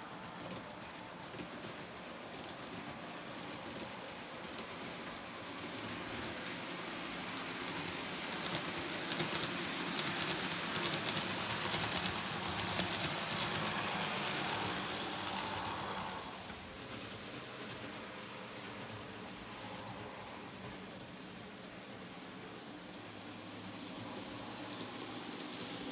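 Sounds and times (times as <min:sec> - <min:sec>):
wheels clicking over rails: 0:00.0 - 0:25.9
model train motor whirring: 0:03.3 - 0:18.0, 0:18.6 - 0:25.9.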